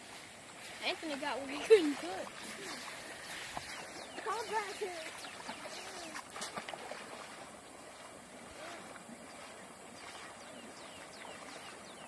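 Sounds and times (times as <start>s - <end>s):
legs wading through water: 0.0s - 12.0s.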